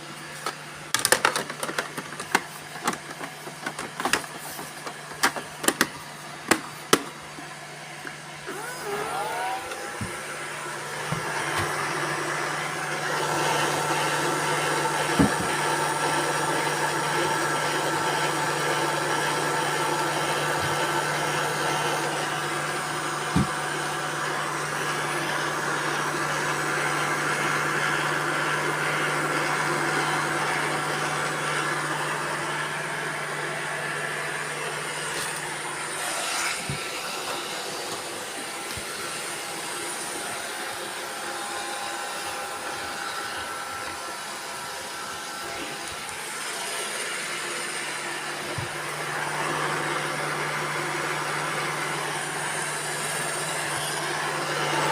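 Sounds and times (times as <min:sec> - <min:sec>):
robot vacuum cleaners whirring: 0:00.0 - 0:54.9.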